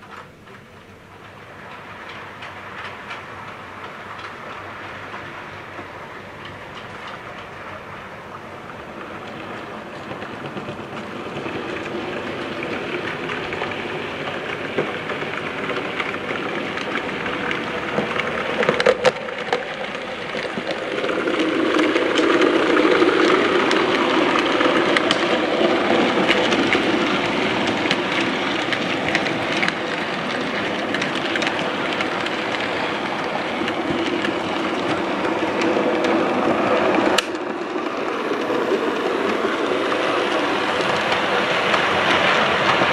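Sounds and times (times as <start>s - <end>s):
model train wheels rattling: 0.0s - 42.9s.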